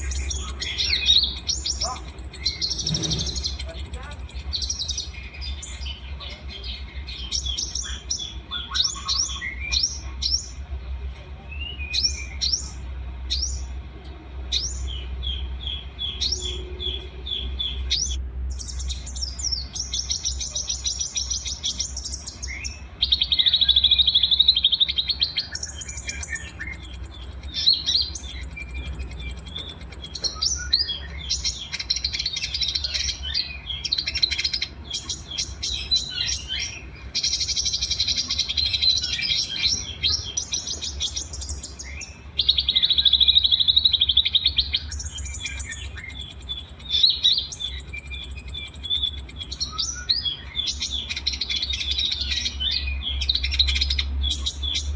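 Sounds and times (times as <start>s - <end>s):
buzzy bird trill: 0.0s - 10.7s, 14.5s - 54.9s
songbirds singing: 0.0s - 54.9s.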